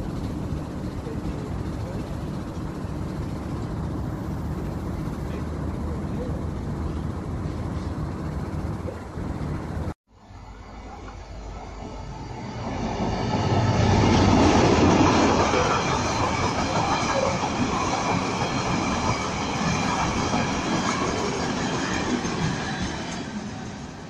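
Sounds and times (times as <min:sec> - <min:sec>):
diesel locomotive engine: 0:00.0 - 0:24.0.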